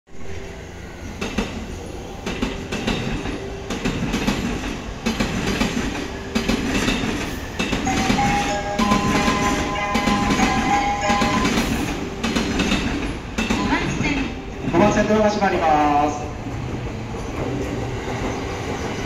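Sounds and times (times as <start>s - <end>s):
train equipment humming: 0.1s - 19.0s.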